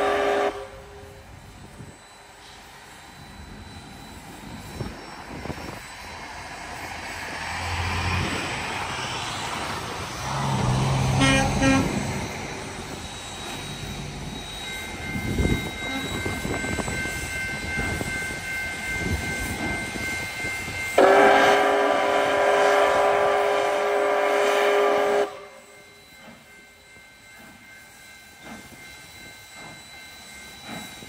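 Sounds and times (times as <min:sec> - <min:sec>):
steam train passing: 0:00.0 - 0:31.0.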